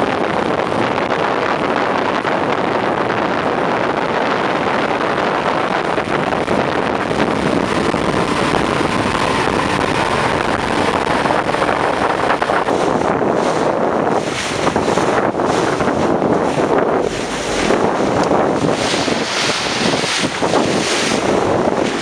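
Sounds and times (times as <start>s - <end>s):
boat motor running: 0.0s - 22.0s
water along boat hull: 0.0s - 22.0s
wind on microphone: 0.0s - 22.0s.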